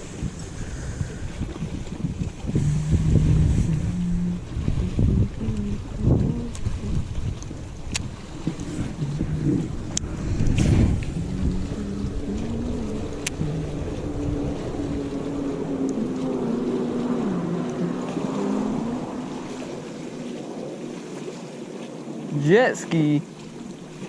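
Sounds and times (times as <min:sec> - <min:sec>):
wind buffeting microphone: 0:00.0 - 0:22.5
watercraft engine running: 0:00.0 - 0:24.0.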